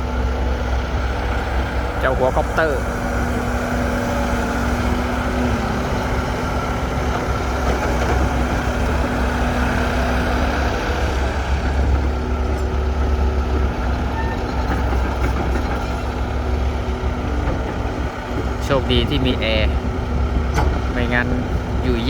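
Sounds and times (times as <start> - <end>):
excavator diesel engine rumble: 0.0 - 22.0.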